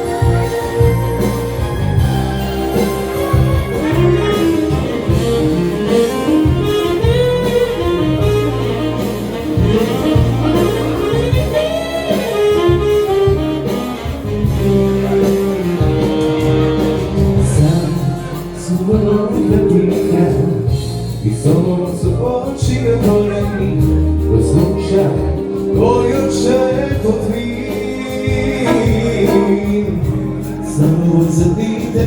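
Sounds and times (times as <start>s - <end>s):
live band playing pop music: 0.0s - 32.0s.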